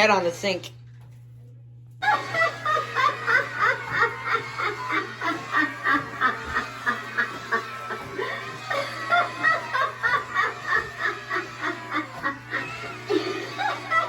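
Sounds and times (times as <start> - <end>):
animatronic cackling laugh: 2.0 - 14.0.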